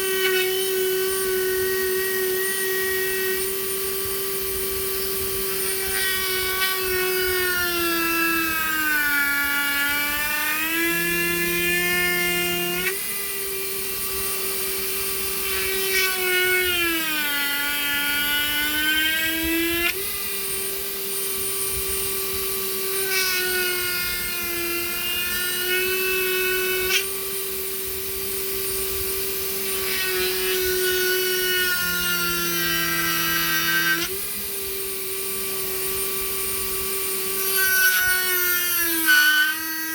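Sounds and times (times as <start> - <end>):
rotary power tool cutting wood: 0.0 - 39.9.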